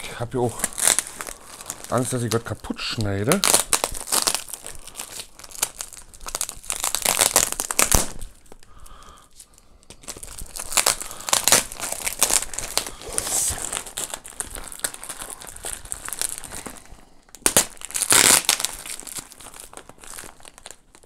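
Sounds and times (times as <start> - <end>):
plastic bag crinkling and tearing: 0.0 - 21.0.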